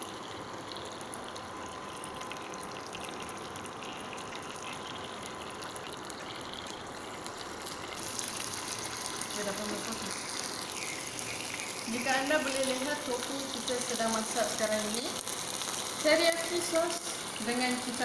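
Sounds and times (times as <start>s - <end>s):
tofu sizzling in hot oil: 0.0s - 18.0s.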